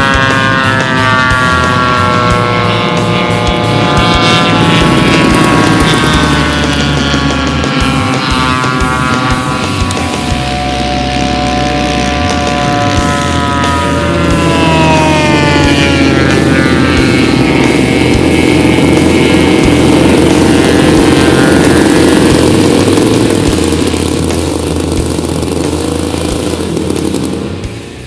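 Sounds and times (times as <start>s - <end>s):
model airplane propeller engine: 0.0s - 28.0s.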